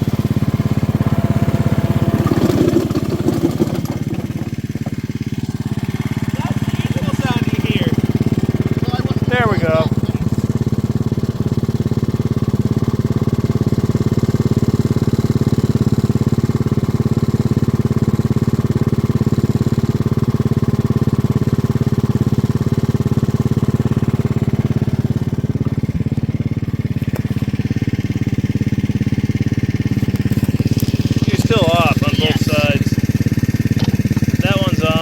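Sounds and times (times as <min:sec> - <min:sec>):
small gasoline engine running: 0:00.0 - 0:35.0.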